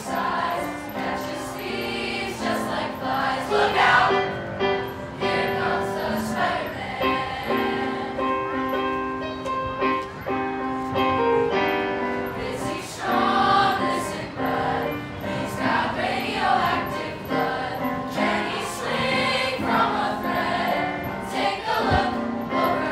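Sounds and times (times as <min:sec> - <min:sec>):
choir singing sustained notes: 0:00.0 - 0:08.4, 0:12.4 - 0:22.9.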